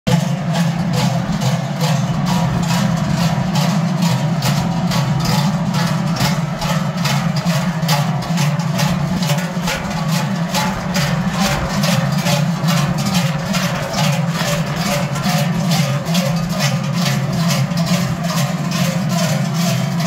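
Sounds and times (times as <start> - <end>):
large cowbells clanging: 0.1 - 20.0.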